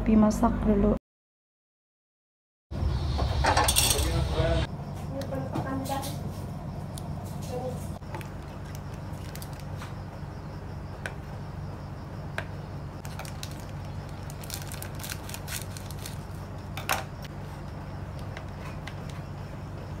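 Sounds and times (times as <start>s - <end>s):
steady low hum: 2.7s - 20.0s.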